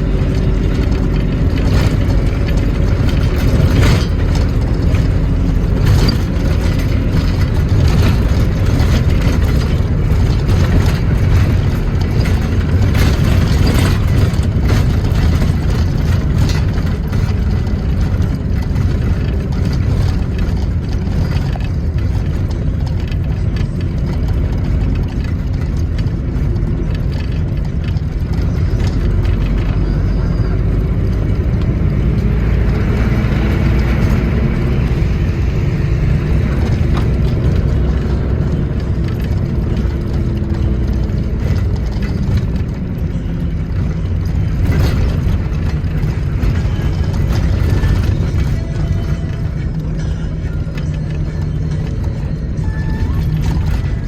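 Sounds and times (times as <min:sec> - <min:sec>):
rattles and clicks: 0:00.0 - 0:54.0
vehicle engine rumbling: 0:00.0 - 0:54.0.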